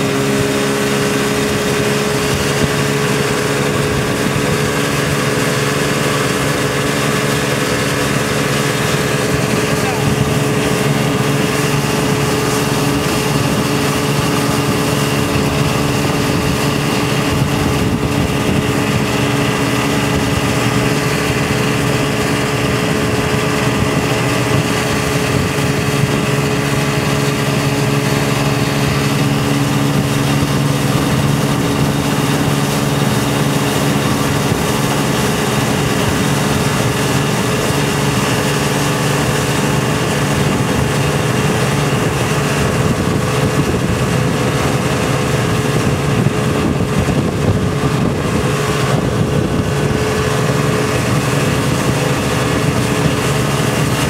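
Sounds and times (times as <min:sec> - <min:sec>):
boat engine running: 0:00.0 - 0:54.0
water rushing from wake: 0:00.0 - 0:54.0.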